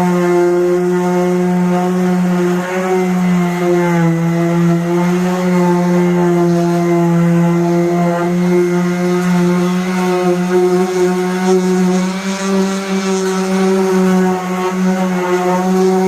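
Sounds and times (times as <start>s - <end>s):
power sander on car paint: 0.0s - 16.0s.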